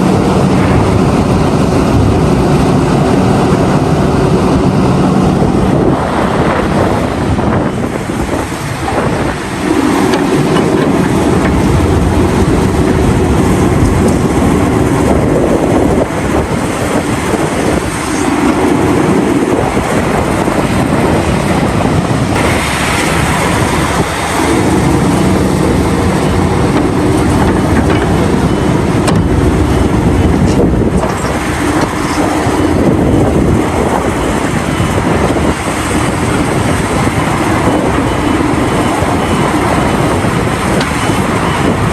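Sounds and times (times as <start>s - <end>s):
heavy diesel engines under load: 0.0s - 41.9s.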